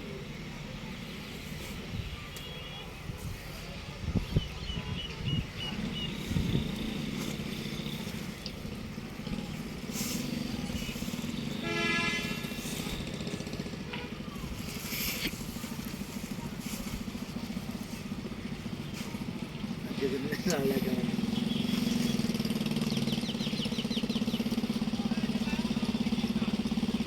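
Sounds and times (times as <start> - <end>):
diesel engine pulsing rumble: 0.0 - 27.0.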